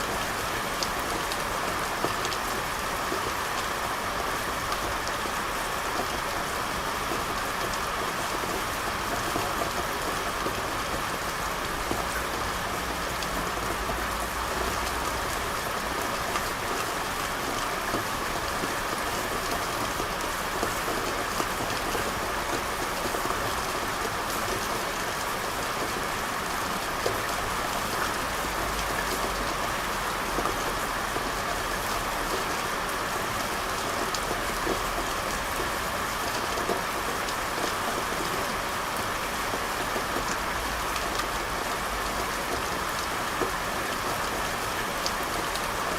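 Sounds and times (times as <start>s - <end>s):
rain on hard street: 0.0s - 45.9s.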